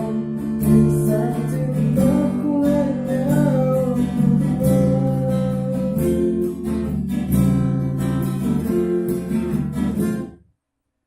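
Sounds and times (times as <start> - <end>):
acoustic guitar strumming: 0.0 - 10.4.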